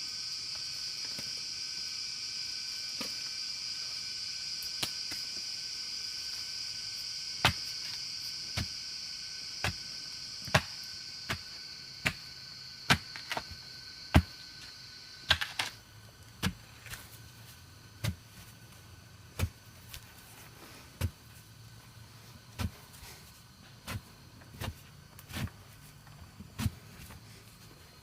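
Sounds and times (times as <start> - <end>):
high-pitched insect drone: 0.0 - 25.2.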